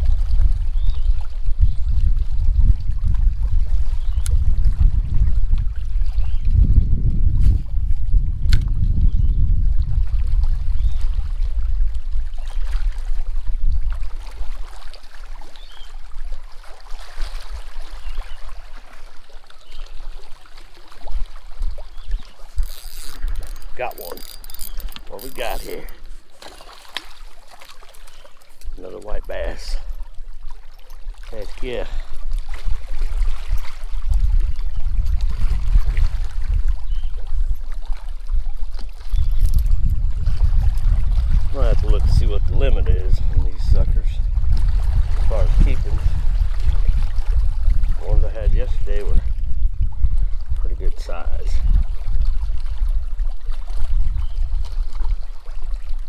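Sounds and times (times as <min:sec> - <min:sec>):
wind rumble on microphone: 0:00.0 - 0:20.2, 0:28.6 - 0:56.0
waves lapping against rocks: 0:00.0 - 0:56.0.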